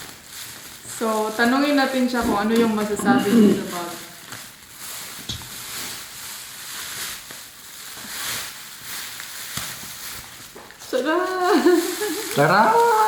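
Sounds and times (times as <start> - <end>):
packaging wrap rustling: 0.0 - 13.0.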